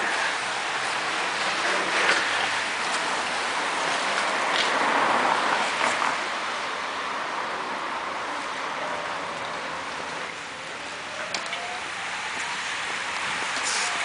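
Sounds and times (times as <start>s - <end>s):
bicycle tyres hissing on road: 0.0s - 9.3s, 10.1s - 14.0s.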